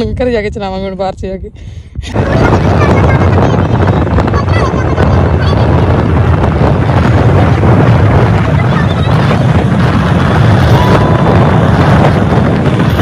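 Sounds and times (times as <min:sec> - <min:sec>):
road and engine noise: 0:00.0 - 0:13.0
wind buffeting microphone: 0:00.0 - 0:13.0.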